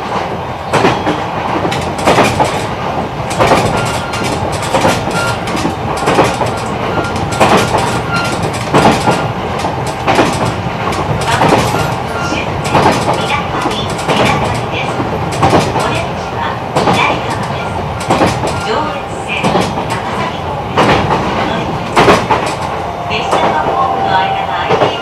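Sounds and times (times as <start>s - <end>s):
train wheels clacking over rail joints: 0.0s - 23.9s
rumble of wheels on rail: 0.0s - 25.0s.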